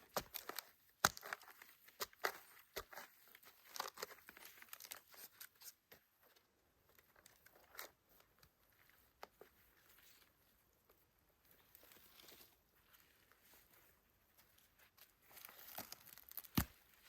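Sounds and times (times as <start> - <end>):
faint crackling and rustling: 0.0 - 17.0.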